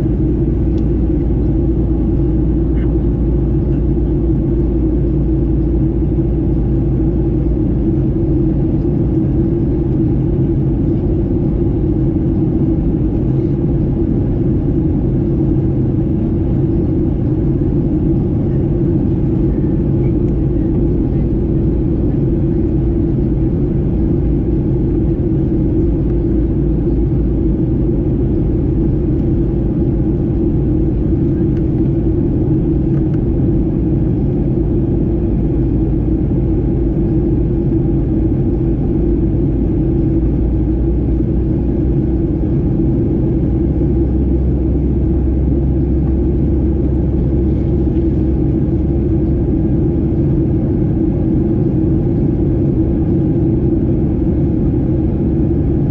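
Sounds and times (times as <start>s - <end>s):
airliner cabin engine rumble: 0.0s - 55.9s.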